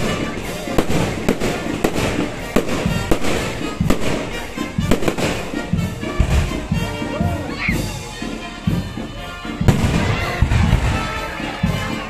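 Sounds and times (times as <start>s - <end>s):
fireworks bangs: 0.0s - 8.4s, 9.0s - 12.0s
music playing: 0.0s - 12.0s.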